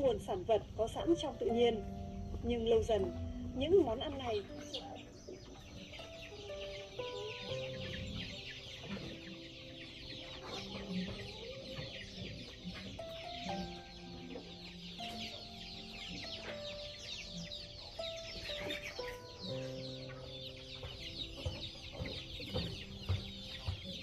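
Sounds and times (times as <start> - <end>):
chickens clucking: 0.0 - 24.0
slow instrumental melody: 0.0 - 24.0
high chirps: 0.8 - 24.0.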